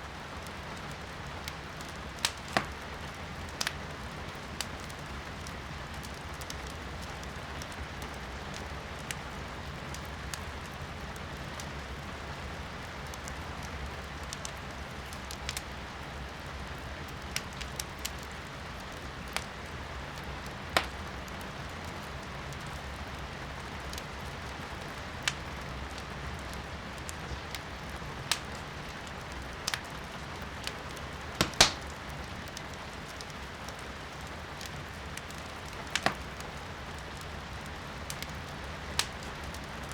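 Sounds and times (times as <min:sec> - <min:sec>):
fireplace crackling and popping: 0:00.0 - 0:39.9
rain hiss from indoors: 0:00.0 - 0:39.9.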